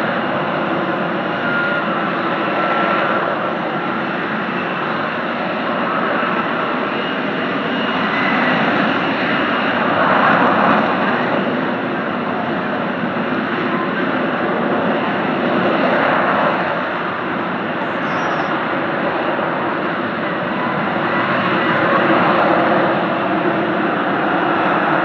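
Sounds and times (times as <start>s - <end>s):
aircraft engine running: 0.0s - 25.0s.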